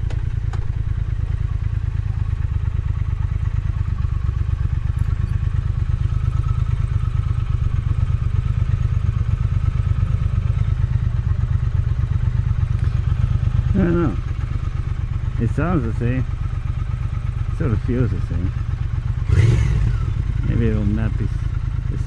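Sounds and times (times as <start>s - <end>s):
deep pulsing exhaust: 0.0s - 22.0s
motorcycle engine running steadily: 0.0s - 22.0s.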